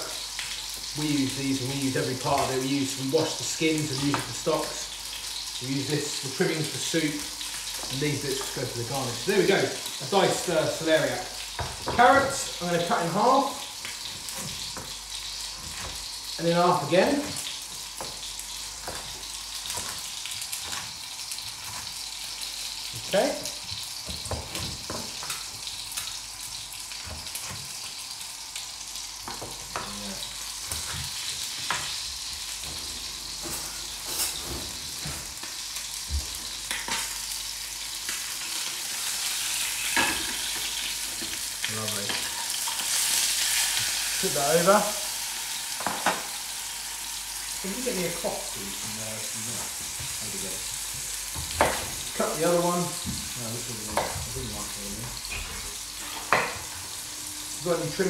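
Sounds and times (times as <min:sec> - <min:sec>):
fish sizzling in a pan: 0:00.0 - 0:58.0.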